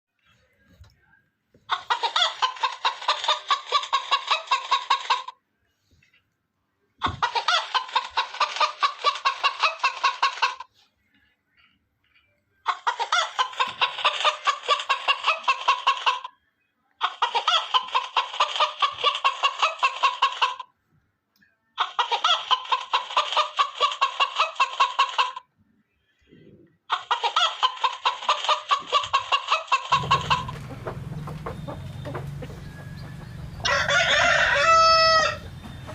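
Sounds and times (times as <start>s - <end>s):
chicken clucking: 1.6s - 6.3s, 7.0s - 20.8s, 21.7s - 35.9s.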